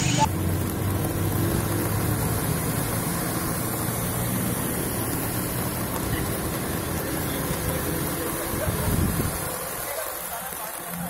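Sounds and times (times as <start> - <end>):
car engine hum: 0.0 - 11.0
floodwater washing around tyres: 0.0 - 11.0.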